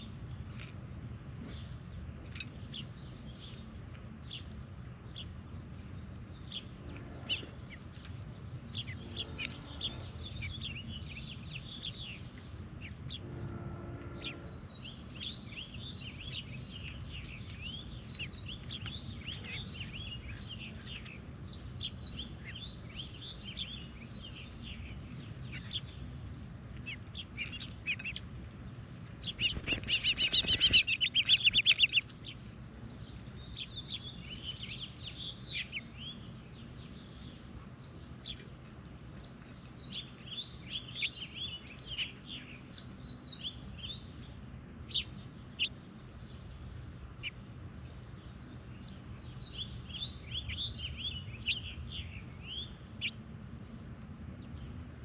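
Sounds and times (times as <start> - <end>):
birds chirping: 0.0 - 55.0
low steady rumble: 0.0 - 55.0.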